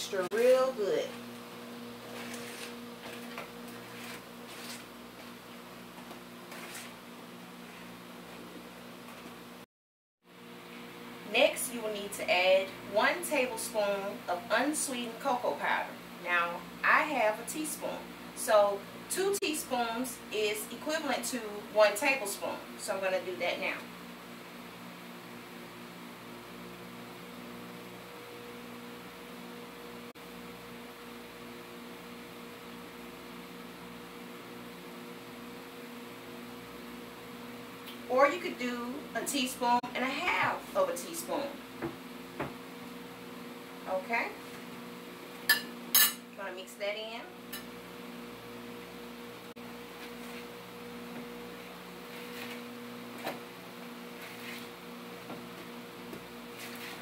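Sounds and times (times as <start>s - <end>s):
electrical hum: 0.0s - 9.6s, 10.3s - 57.0s.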